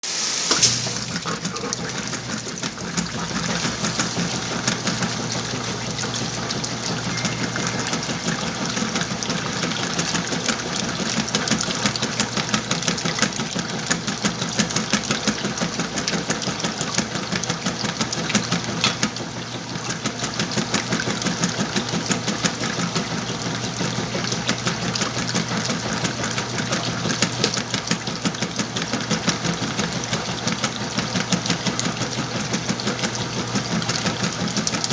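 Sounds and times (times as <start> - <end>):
washing machine churning rattle: 0.0 - 34.9
washing machine hum: 0.0 - 34.9.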